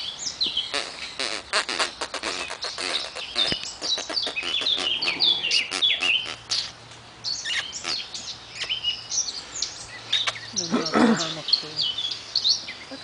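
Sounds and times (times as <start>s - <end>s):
small monkeys chirping: 0.0s - 13.0s.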